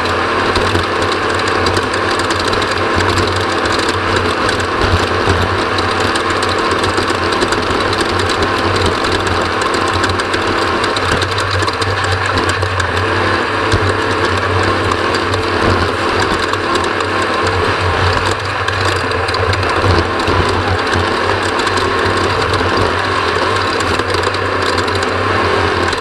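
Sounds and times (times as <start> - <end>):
race vehicle engine running: 0.0 - 26.0
vehicle rattling: 0.0 - 26.0.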